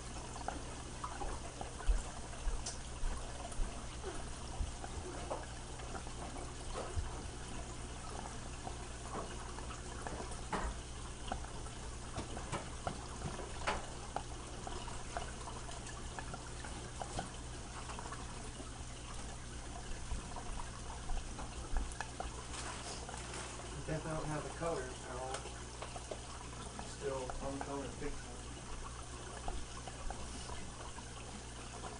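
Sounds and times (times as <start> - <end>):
aquarium water trickling: 0.0 - 31.9.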